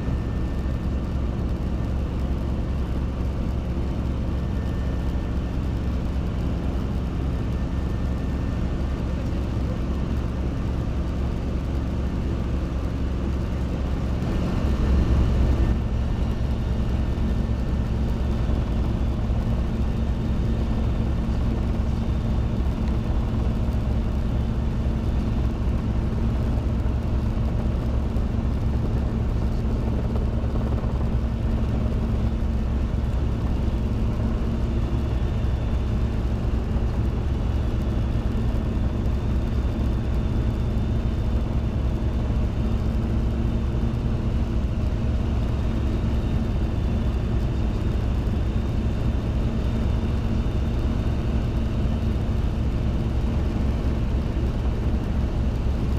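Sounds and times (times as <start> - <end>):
helicopter engine and rotors droning: 0.0 - 55.9.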